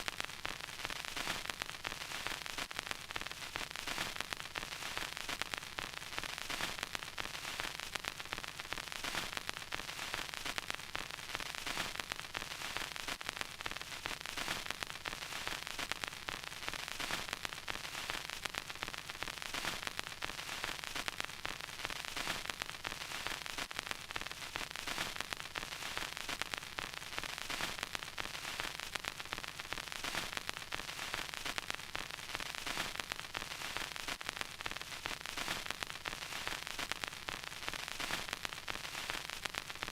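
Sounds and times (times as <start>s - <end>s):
vinyl record crackle: 0.0s - 39.9s.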